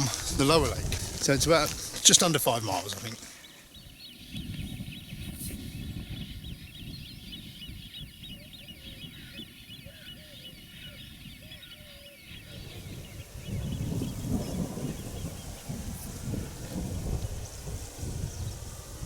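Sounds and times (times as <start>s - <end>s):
birds chirping and calling: 0.0s - 18.9s
wind rumbling on microphone: 0.0s - 19.0s
low bird call: 3.1s - 19.0s.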